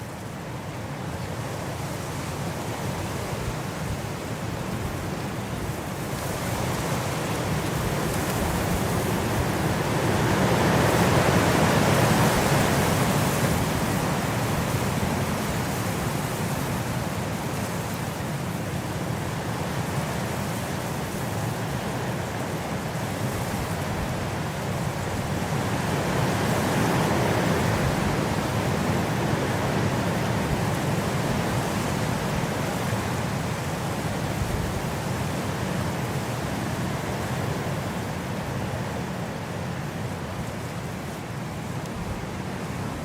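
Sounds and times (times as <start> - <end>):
wind blowing in a rushing hiss: 0.0 - 43.0.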